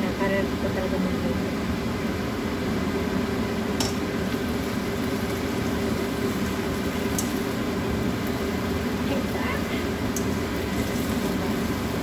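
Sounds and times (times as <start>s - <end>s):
steady hum: 0.0s - 12.0s
vegetables and meat frying: 0.0s - 12.0s.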